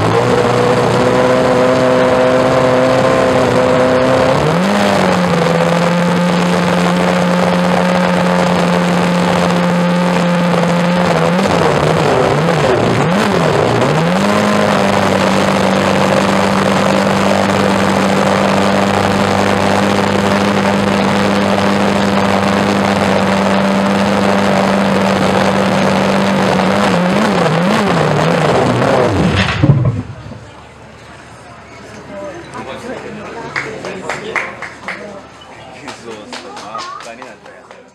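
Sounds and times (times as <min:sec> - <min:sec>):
racing car engine revving: 0:00.0 - 0:30.8.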